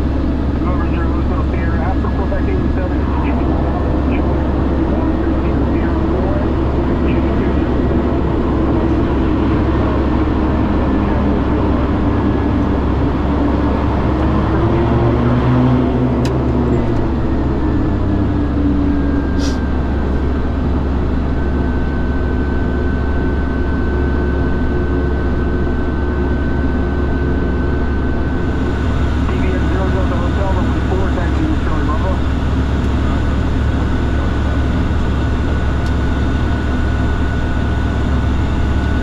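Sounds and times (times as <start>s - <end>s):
turboprop cabin drone: 0.0s - 39.0s.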